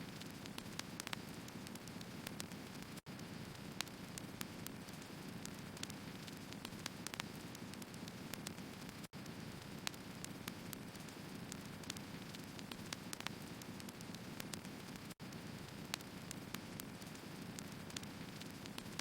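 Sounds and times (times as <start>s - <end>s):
logs crackling and popping: 0.1s - 19.0s
firewood burning hiss: 0.2s - 19.0s.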